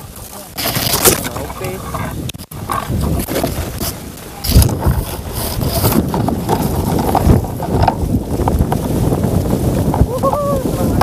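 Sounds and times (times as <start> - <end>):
branches and twigs rustling: 0.0 - 11.0
microphone handling noise: 0.0 - 11.0
wind buffeting microphone: 0.0 - 11.0.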